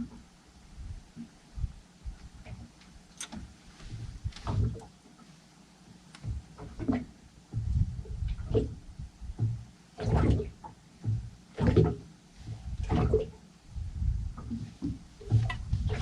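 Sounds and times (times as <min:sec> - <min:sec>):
waves slapping against boat hull: 0:02.4 - 0:05.2, 0:05.9 - 0:16.0.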